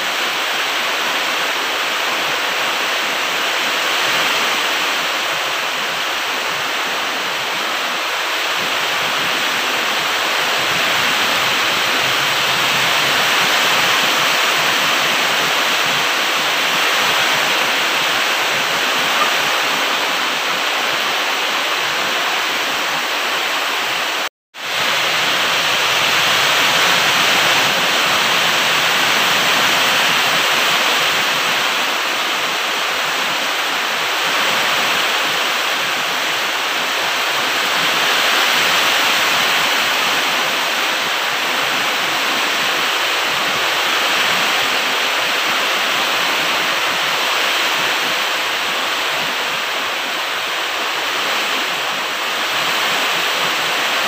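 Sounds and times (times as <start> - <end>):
loud steady rushing noise: 0.0 - 54.0.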